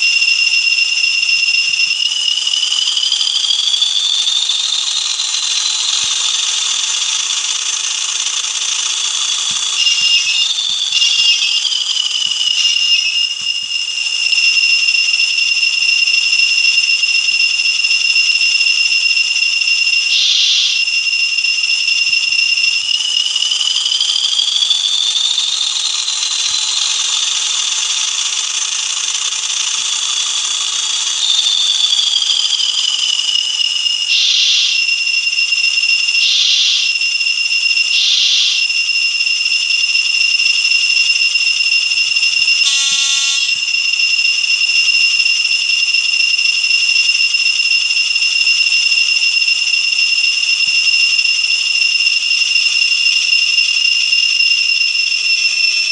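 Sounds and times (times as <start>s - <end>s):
shrill two-tone whistle from small speaker: 0.0s - 55.9s.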